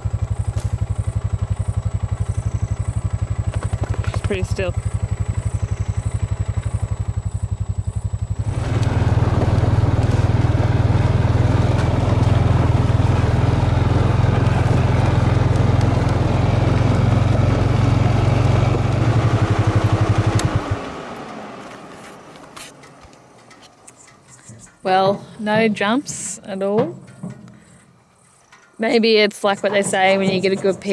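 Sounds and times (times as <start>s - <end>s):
quad bike engine: 0.0s - 27.8s.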